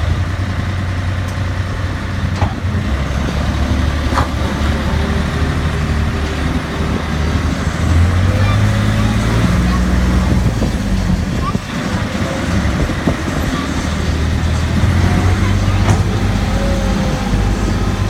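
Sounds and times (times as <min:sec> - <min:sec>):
road train engine humming: 0:00.0 - 0:18.0.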